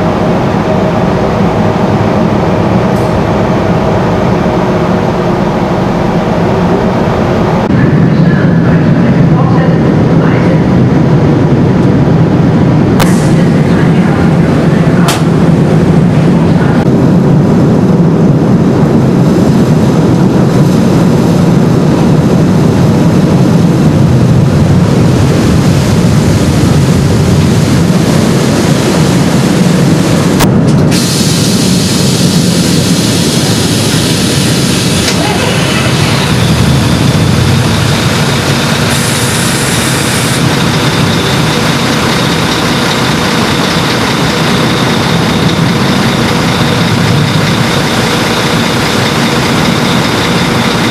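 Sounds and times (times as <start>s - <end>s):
ship engines droning: 0.0s - 50.9s.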